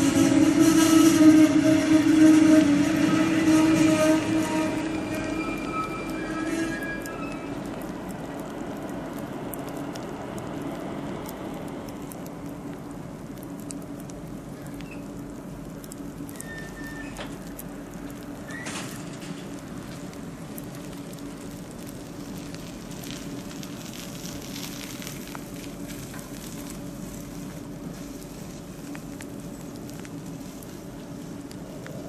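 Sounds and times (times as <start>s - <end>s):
crackling hiss: 0.0s - 32.0s
train equipment humming: 0.0s - 32.0s.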